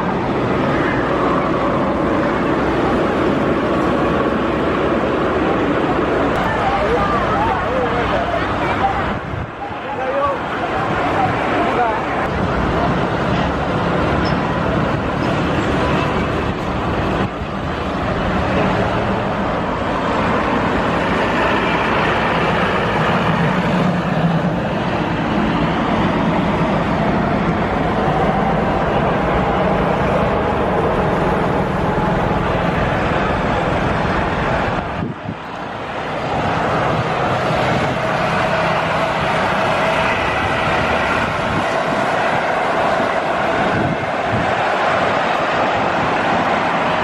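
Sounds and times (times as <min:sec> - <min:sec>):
jet engines roaring: 0:00.0 - 0:47.0.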